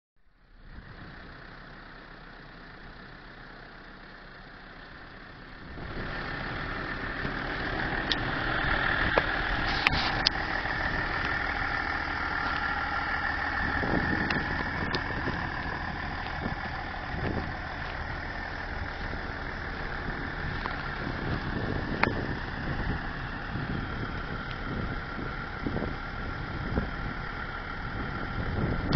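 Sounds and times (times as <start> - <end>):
engine idling: 0.2 - 28.9.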